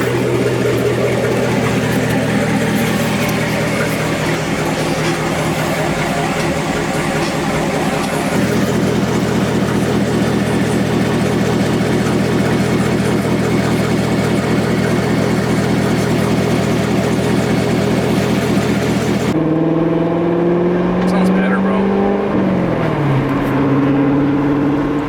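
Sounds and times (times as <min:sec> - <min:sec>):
loud snarling car engine idling: 0:00.0 - 0:25.0.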